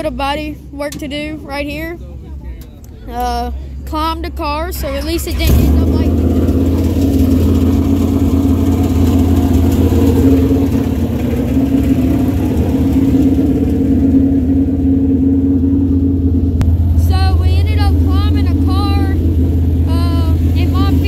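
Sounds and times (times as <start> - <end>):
engine low drone: 0.0 - 21.0.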